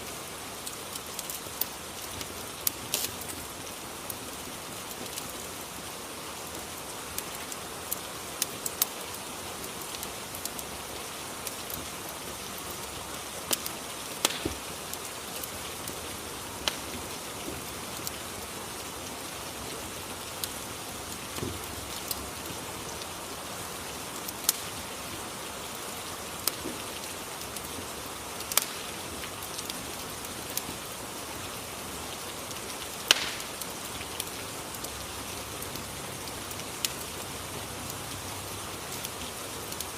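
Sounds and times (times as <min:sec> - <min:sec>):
fireplace crackles: 0:00.0 - 0:39.9
steady rain hiss: 0:00.0 - 0:39.9.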